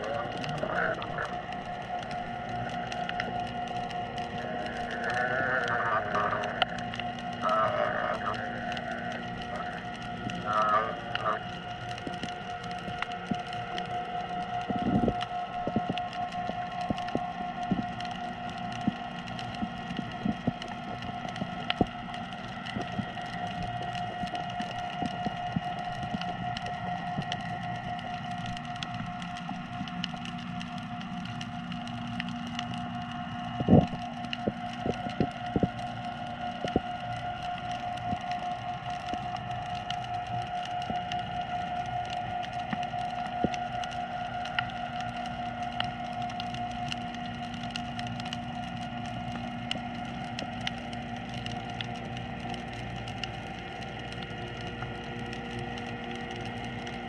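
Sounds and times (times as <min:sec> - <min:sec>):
steady pitched hum: 0:00.0 - 0:57.0
underwater crackle of clicks: 0:00.0 - 0:57.0.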